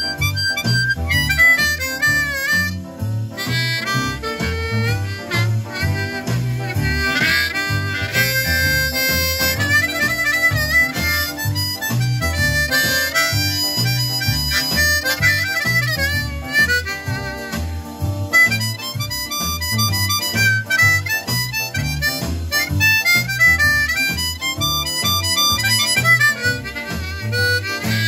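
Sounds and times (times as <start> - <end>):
blues backing with bass beat: 0.0 - 28.0
bluesy harmonica: 0.0 - 28.0.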